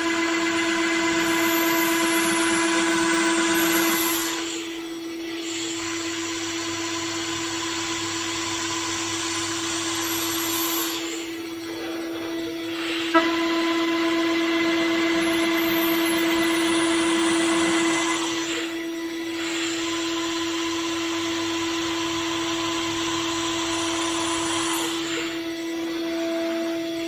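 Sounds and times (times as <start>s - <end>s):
machine spindle whine: 0.0s - 27.0s.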